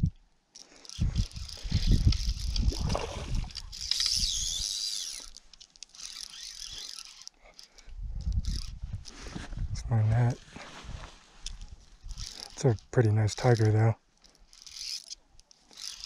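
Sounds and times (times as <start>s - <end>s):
fishing reel ratchet clicking: 0.1s - 9.2s, 11.4s - 16.0s.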